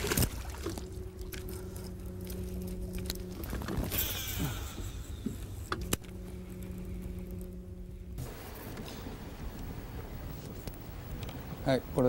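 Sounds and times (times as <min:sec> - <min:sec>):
electric trolling motor humming: 0:00.0 - 0:11.5.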